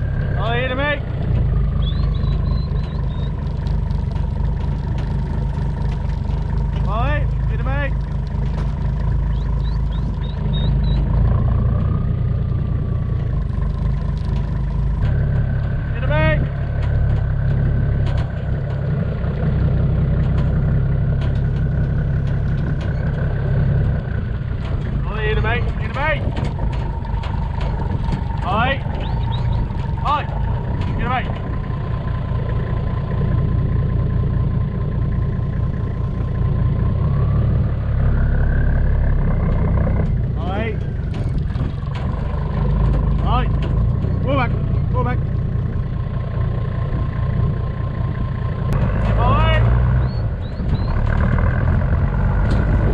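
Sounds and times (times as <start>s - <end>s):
car engine rumbling: 0.0s - 52.9s.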